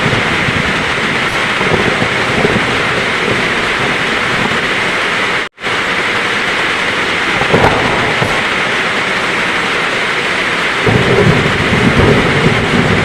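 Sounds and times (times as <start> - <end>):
heavy rain hissing: 0.0 - 13.0
thunder rumbling: 0.0 - 13.0.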